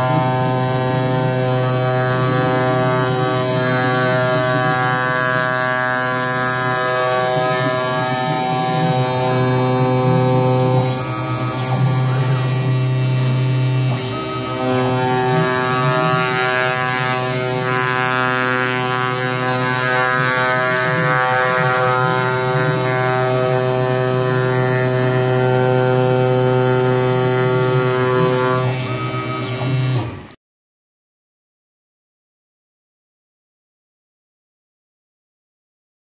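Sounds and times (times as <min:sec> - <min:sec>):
cnc router buzzing hum: 0:00.0 - 0:30.4
faint machine whines: 0:00.0 - 0:30.4.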